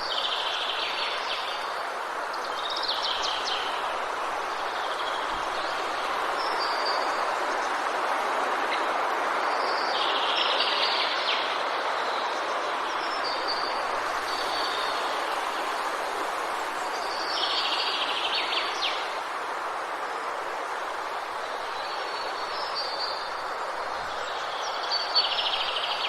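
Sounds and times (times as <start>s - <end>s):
wind: 0.0s - 26.0s.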